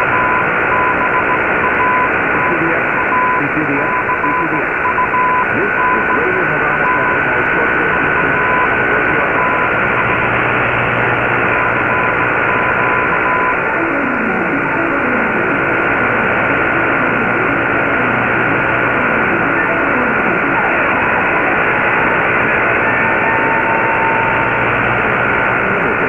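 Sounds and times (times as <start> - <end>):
faint broken beeping: 0.0 - 26.0
radio static hiss: 0.0 - 26.0.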